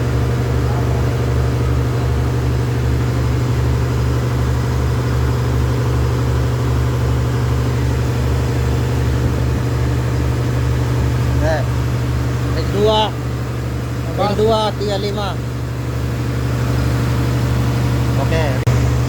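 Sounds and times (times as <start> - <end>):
machine humming with low throb: 0.0 - 19.0.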